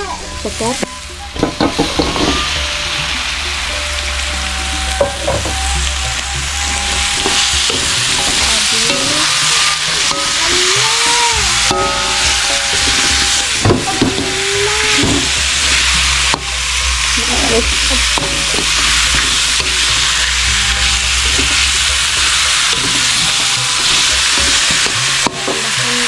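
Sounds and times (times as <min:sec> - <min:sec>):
food sizzling in a wok: 0:00.0 - 0:26.0
metal spatula scraping a wok: 0:04.9 - 0:26.0.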